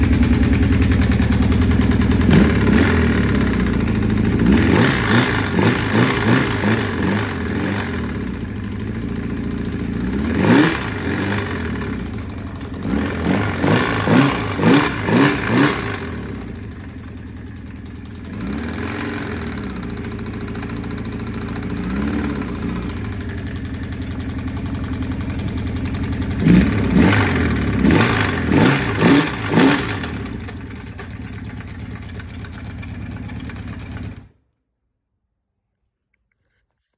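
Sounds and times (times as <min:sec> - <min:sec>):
motorcycle engine idling and revving: 0:00.0 - 0:34.4.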